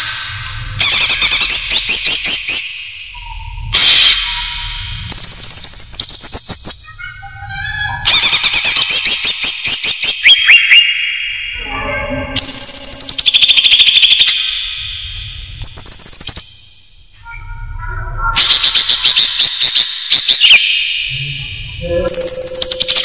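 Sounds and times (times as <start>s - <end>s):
bird chirping: 0.8s - 23.0s.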